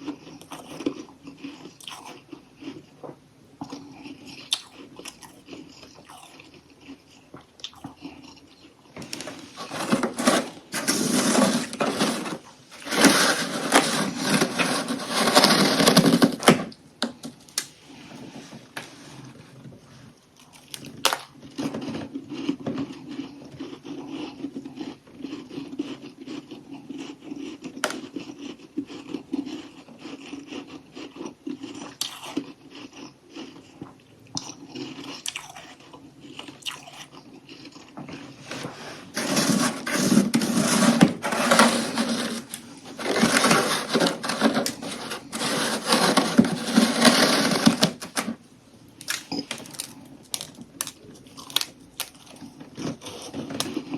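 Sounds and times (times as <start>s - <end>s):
chewing crunchy frost: 0.0s - 16.5s, 20.0s - 53.9s.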